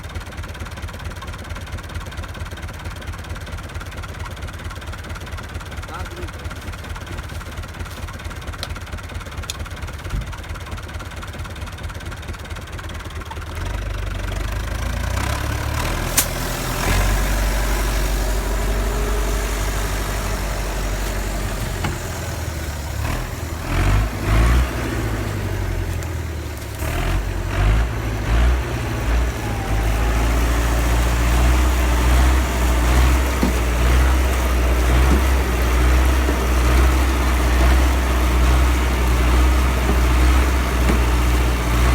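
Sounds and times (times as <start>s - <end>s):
tractor engine droning: 2.2s - 41.9s.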